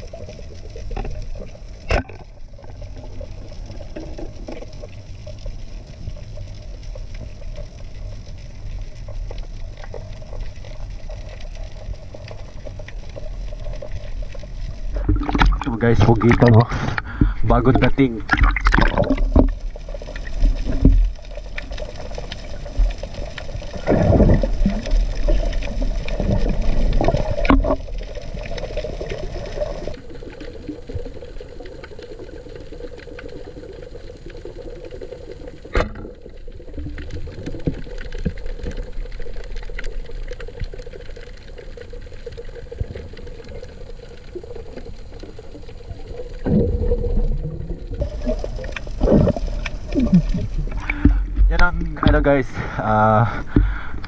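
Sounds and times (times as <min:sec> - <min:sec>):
water rushing and bubbling underwater: 0:00.0 - 0:54.0.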